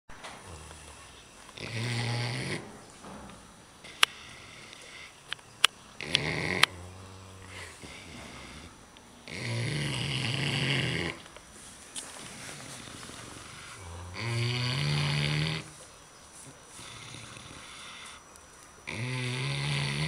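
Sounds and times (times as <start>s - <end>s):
pigs snoring: 0.2s - 5.3s, 5.9s - 11.3s, 12.2s - 15.8s, 16.7s - 18.2s, 18.8s - 20.0s.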